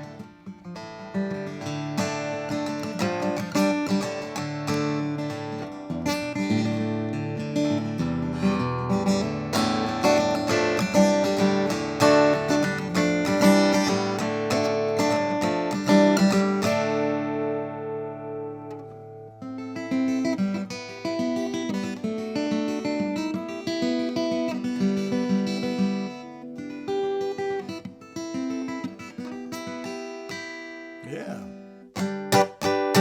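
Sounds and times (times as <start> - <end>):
acoustic guitar picking: 0.0 - 33.0.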